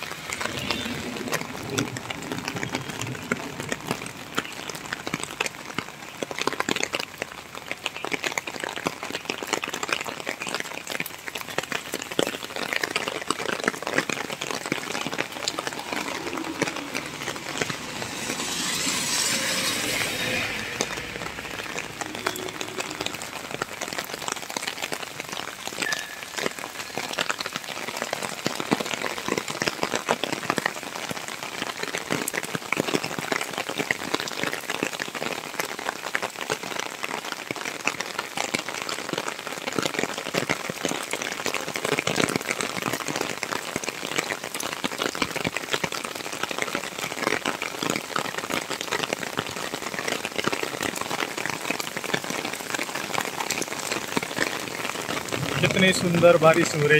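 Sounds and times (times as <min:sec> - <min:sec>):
rain on puddled paving: 0:00.0 - 0:56.9.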